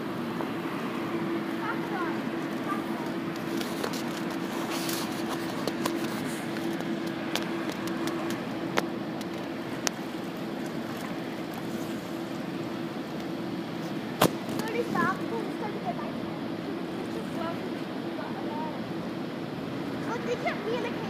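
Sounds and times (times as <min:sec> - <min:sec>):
constant rushing noise: 0:00.0 - 0:21.0
steady mechanical hum: 0:00.0 - 0:21.0.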